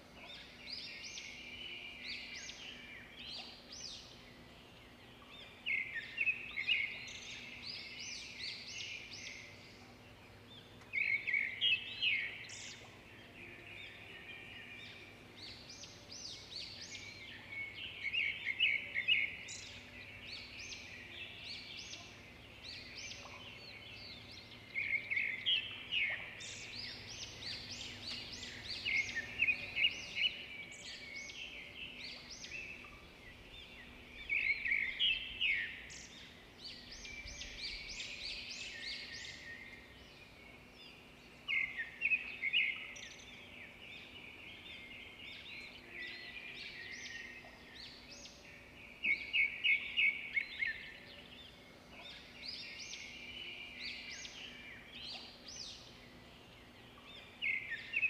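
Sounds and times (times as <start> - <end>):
birds chirping: 0.4 - 58.0.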